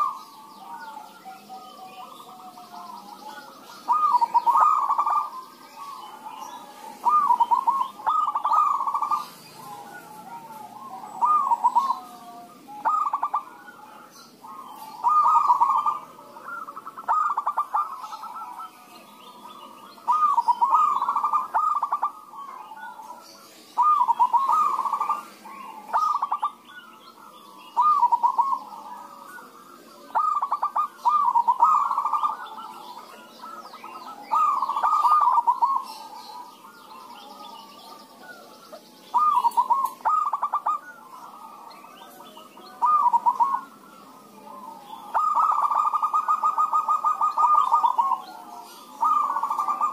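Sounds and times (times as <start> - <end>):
doves cooing: 0.0 - 49.9.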